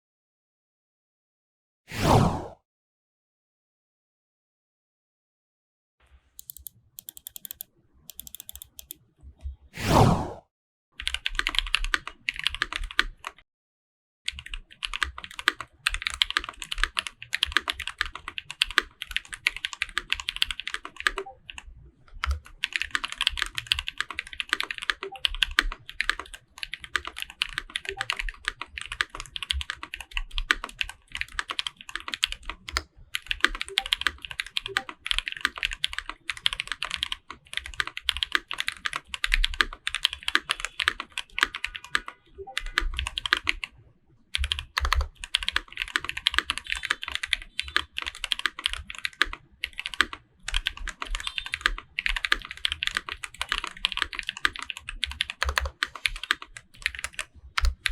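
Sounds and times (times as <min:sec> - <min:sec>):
fast keyboard typing: 0:06.4 - 0:09.0, 0:11.0 - 0:13.4, 0:14.3 - 0:43.7, 0:44.4 - 0:57.9.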